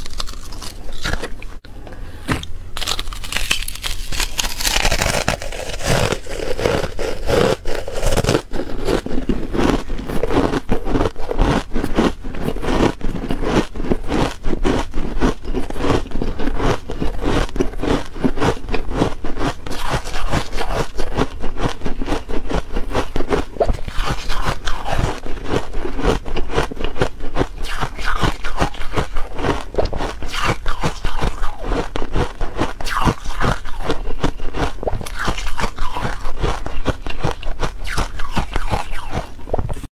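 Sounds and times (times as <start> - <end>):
ice being crunched by chewing: 0.0 - 1.6, 2.3 - 39.8.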